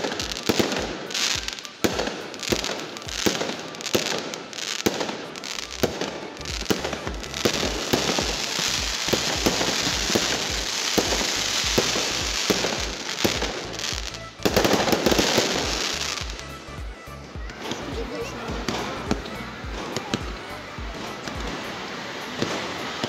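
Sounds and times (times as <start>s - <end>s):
firework bangs: 0.0s - 23.0s
firework crackling hiss: 0.0s - 23.0s.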